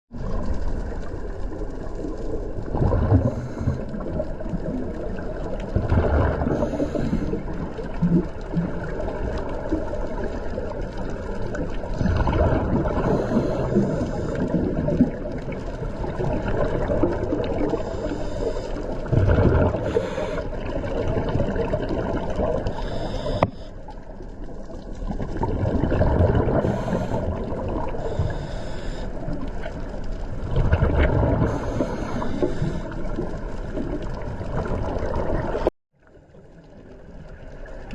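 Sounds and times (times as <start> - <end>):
bubbling surge: 0.1 - 18.3, 18.9 - 23.4, 24.6 - 28.4, 29.2 - 35.7
underwater watery rush: 0.1 - 37.9.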